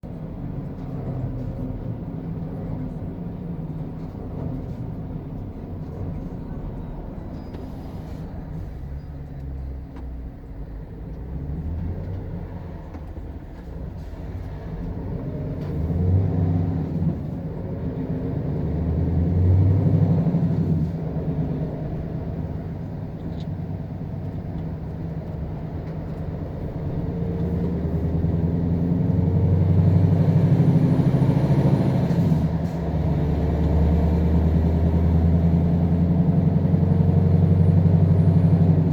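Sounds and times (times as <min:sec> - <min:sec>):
diesel truck engine under load: 0:00.0 - 0:38.9.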